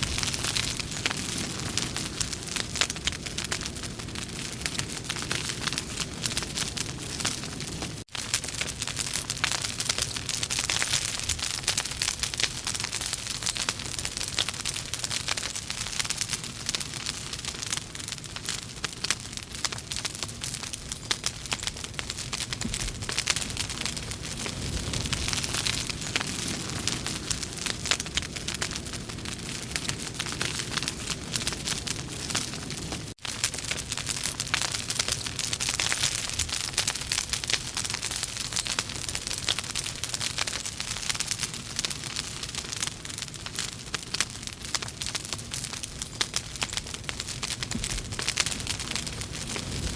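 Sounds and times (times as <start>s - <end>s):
logs crackling in fireplace: 0.0s - 49.9s.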